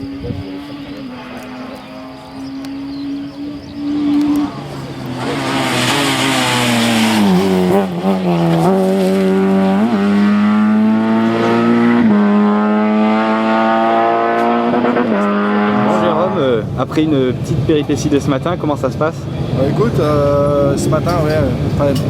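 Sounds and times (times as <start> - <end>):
rally car engine upshifting: 0.0 - 22.0.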